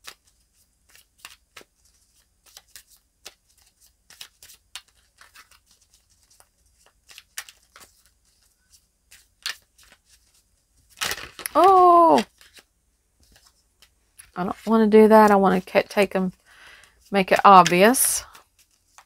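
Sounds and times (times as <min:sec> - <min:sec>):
cards clicking and rustling: 0:00.0 - 0:14.7, 0:16.8 - 0:19.0.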